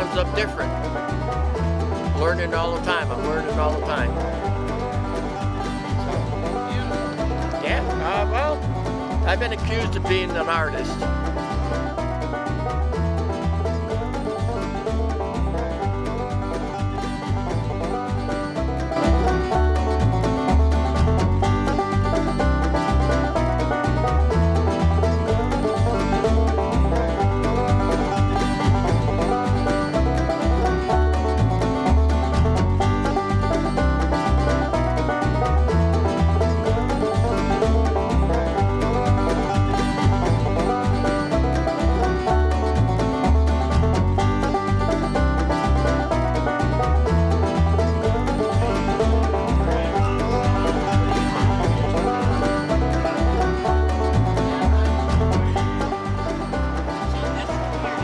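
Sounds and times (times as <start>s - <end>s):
music with plucked strings: 0.0s - 58.0s.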